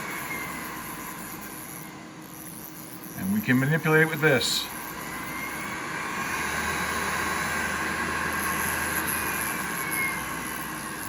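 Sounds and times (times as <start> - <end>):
spindle motor whining: 0.0 - 11.0.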